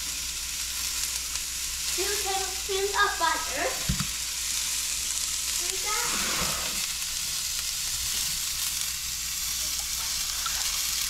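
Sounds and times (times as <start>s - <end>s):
sauce bubbling and sizzling: 0.0s - 11.0s.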